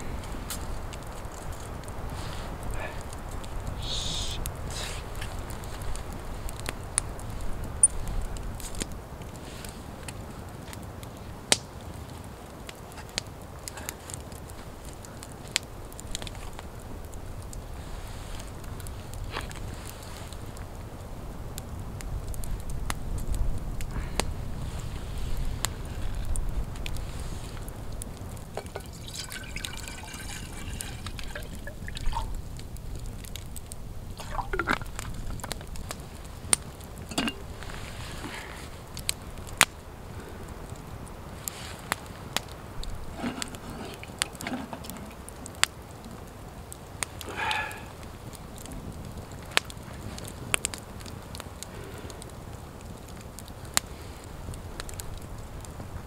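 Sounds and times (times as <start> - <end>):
burning logs popping and snapping: 0.0 - 56.0
campfire crackling: 0.0 - 56.0.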